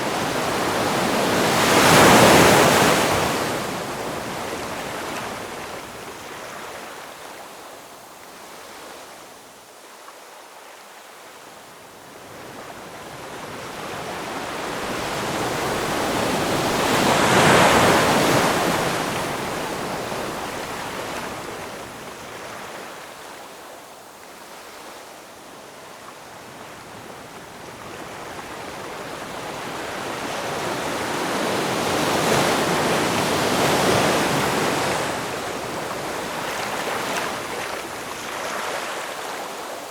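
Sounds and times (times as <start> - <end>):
ocean waves breaking on shore: 0.0 - 9.3, 12.2 - 39.9.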